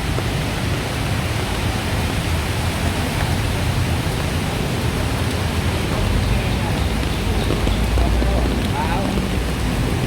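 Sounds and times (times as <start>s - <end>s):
heavy rain: 0.0s - 10.0s
running floodwater: 0.0s - 10.0s.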